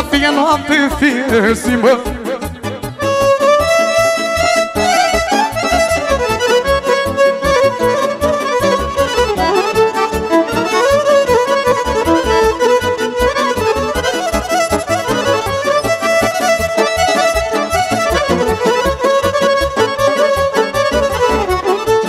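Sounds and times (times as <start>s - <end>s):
digital accordion melody: 0.0s - 22.0s
keyboard backing with steady beat: 0.0s - 22.0s
violin: 0.0s - 22.0s.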